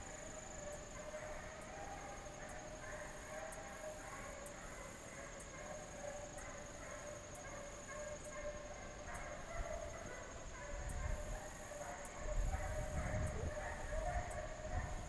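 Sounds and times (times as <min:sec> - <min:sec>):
hounds baying in distance: 0:00.0 - 0:15.0.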